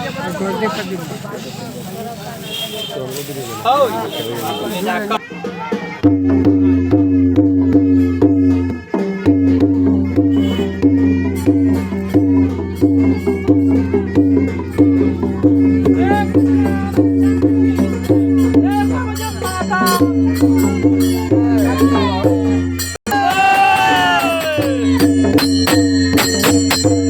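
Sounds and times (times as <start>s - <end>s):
folk music drum beat: 0.0s - 27.0s.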